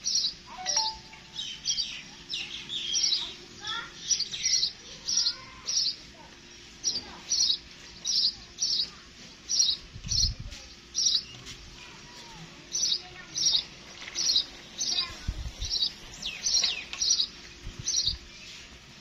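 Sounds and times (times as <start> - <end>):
sparrow chirping: 0.0 - 11.5, 12.7 - 18.7.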